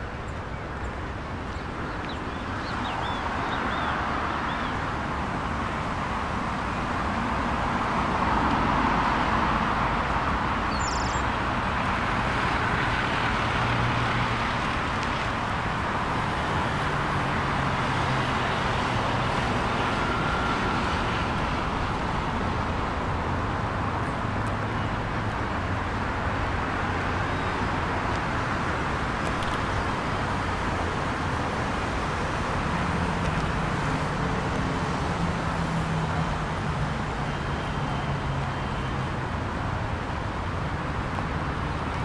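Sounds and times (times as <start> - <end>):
city traffic: 0.0 - 42.0.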